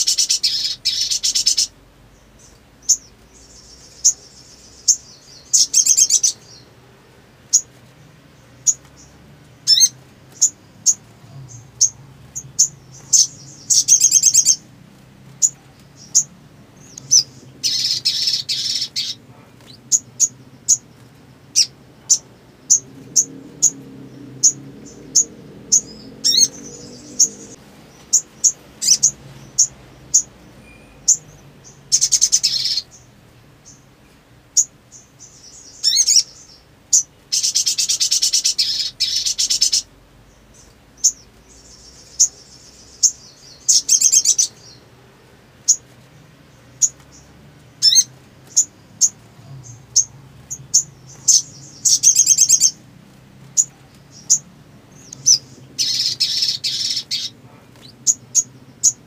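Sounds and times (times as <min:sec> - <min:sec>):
bird chipping calls: 0:00.0 - 0:06.7, 0:08.4 - 0:14.7, 0:15.4 - 0:33.8, 0:34.6 - 0:44.8, 0:46.7 - 0:52.8, 0:53.5 - 0:59.0
bird trilling song: 0:00.0 - 0:06.8, 0:07.4 - 0:33.9, 0:34.5 - 0:44.9, 0:45.6 - 0:52.9, 0:53.5 - 0:59.0.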